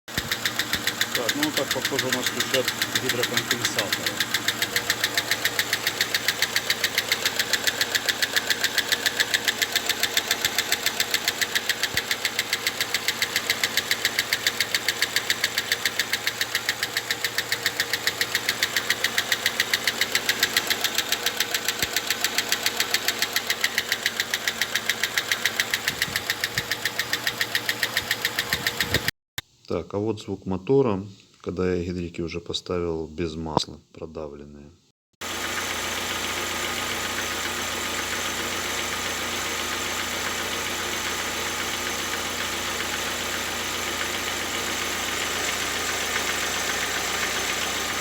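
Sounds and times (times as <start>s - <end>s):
car engine running: 0.1s - 29.1s, 35.2s - 48.0s
engine ticking knock: 0.1s - 29.1s, 35.6s - 48.0s.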